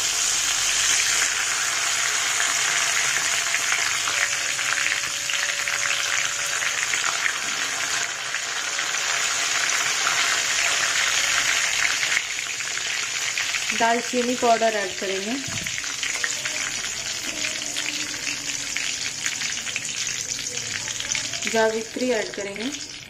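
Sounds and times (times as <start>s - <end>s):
spices sizzling in hot oil: 0.0s - 23.0s.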